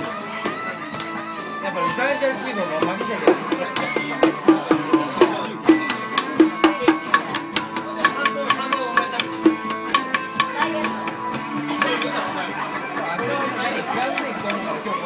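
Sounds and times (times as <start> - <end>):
karaoke backing music: 0.0 - 15.0
percussion beat of sharp taps: 0.9 - 1.2, 2.8 - 14.9.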